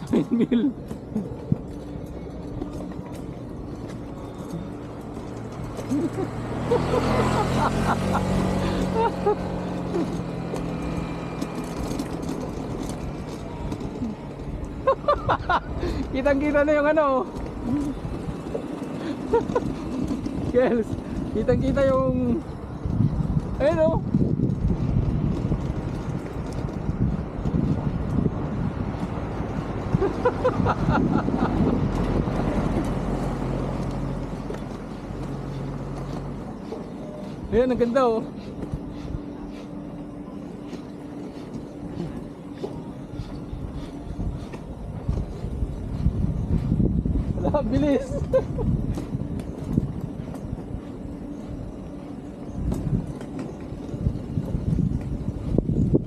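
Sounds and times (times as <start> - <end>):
vehicle engine running: 0.0 - 56.0
wind buffeting microphone: 0.8 - 56.0.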